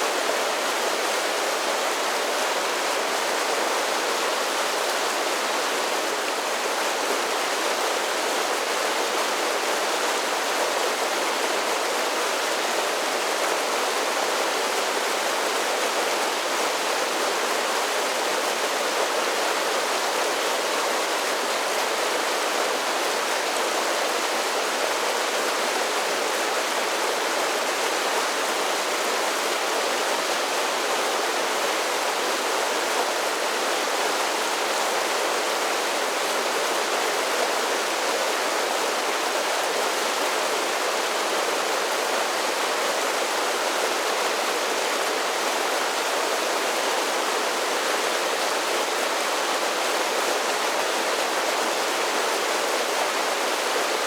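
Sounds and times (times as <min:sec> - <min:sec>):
creek water over small waterfalls: 0:00.0 - 0:54.0.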